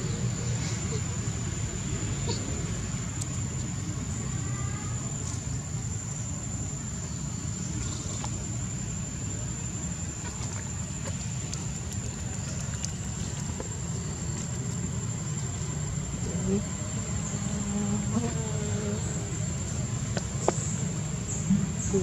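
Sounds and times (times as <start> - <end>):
insect whine: 0.0 - 22.0.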